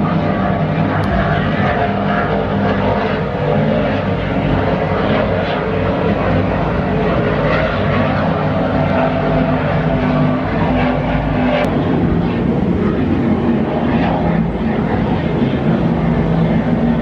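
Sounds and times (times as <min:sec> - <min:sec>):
powerboat engines droning: 0:00.0 - 0:17.0.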